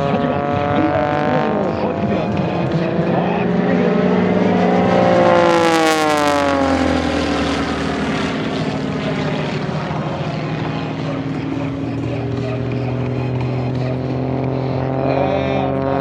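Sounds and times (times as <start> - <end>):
propeller plane engine passing by: 0.0 - 16.0.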